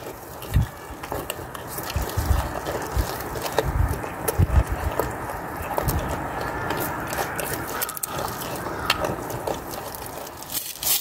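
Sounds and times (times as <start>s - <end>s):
goats chewing leafy greens: 0.0s - 11.0s
rustling leaves: 0.0s - 11.0s.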